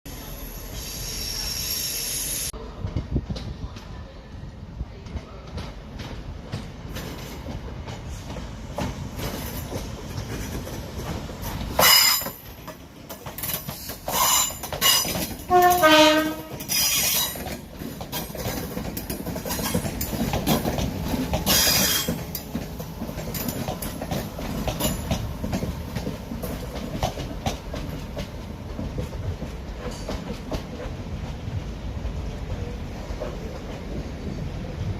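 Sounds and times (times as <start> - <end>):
passenger train rumbling: 0.1 - 34.9.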